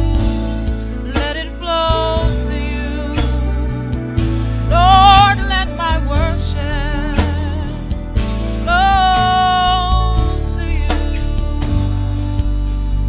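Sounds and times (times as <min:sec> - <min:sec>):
sustained instrumental accompaniment: 0:00.0 - 0:13.0
woman singing gospel song: 0:00.0 - 0:13.0.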